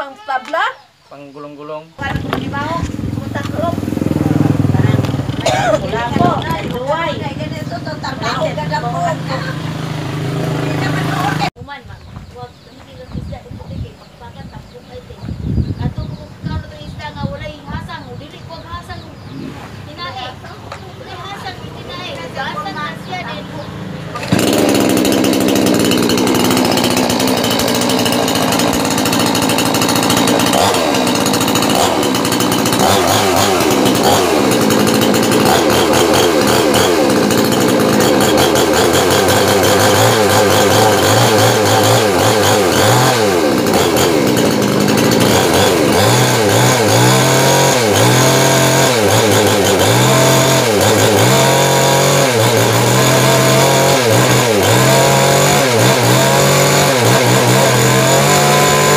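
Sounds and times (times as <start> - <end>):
chainsaw engine revving: 2.0 - 11.6, 19.2 - 58.9.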